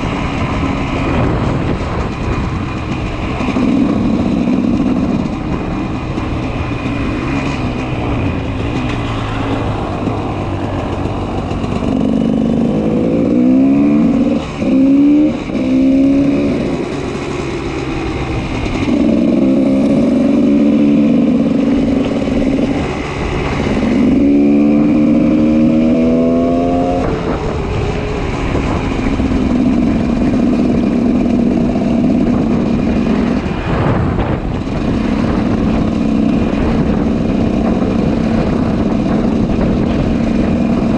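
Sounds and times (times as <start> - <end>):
two-stroke motorcycle engine accelerating: 0.0 - 40.9.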